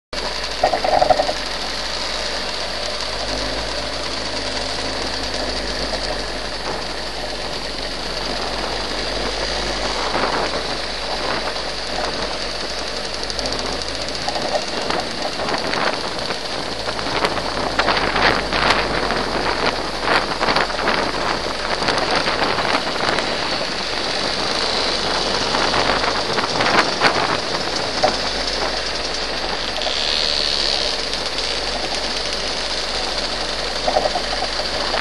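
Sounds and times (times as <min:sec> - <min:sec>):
scooter engine running: 0:00.2 - 0:35.0
wind and road noise: 0:00.2 - 0:35.0.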